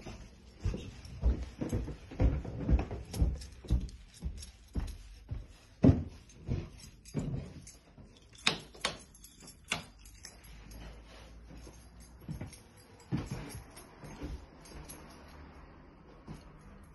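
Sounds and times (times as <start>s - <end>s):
footsteps on carpeted stairs: 0.0s - 16.9s.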